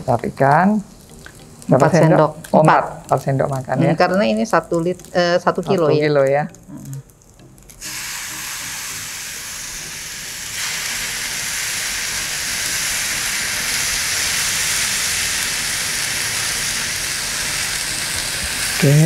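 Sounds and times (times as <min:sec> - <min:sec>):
rice sizzling in a hot pan: 0:00.0 - 0:06.2, 0:07.4 - 0:19.0.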